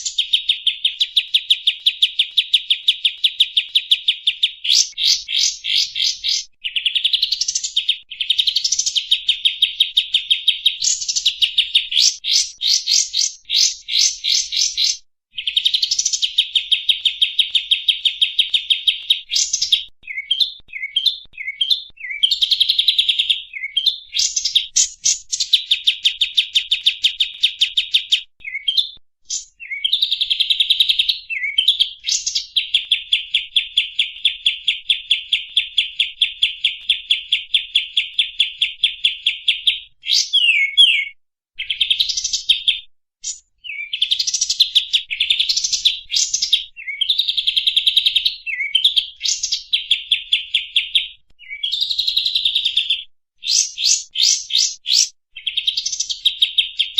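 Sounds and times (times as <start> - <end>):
songbird trilling: 0.0 - 42.6, 43.2 - 56.2
sweeping bird chirps: 0.0 - 56.9.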